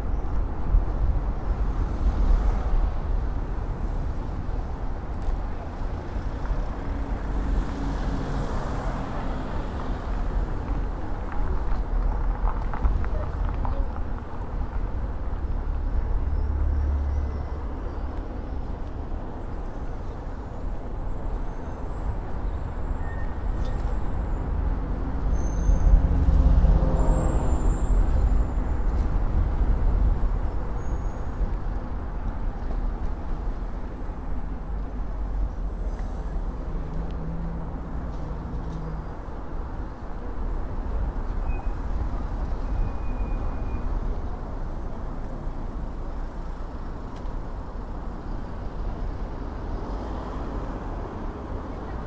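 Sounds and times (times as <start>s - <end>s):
street traffic: 0.0s - 52.0s.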